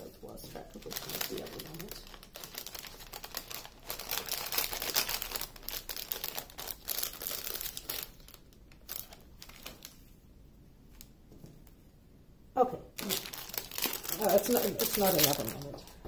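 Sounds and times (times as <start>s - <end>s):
plastic bags crinkling: 0.3s - 10.1s, 13.0s - 16.0s.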